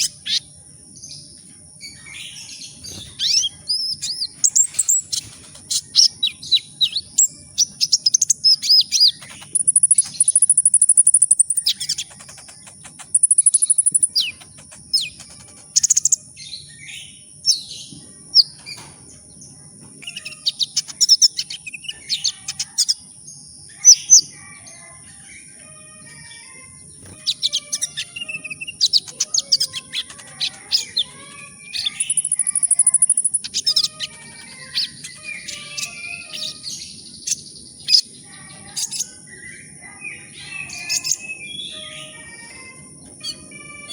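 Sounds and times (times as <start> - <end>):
bird chirping and trilling: 0.0 - 43.9.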